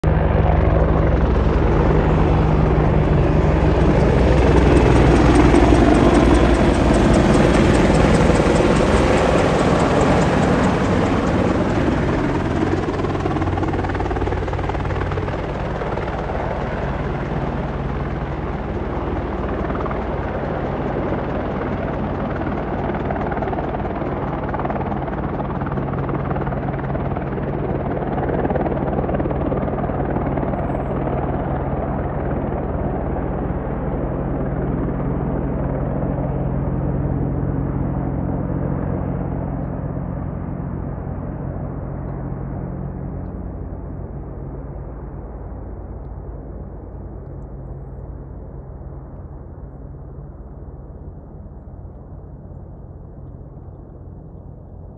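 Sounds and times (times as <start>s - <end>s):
helicopter flying past: 0.0s - 54.9s.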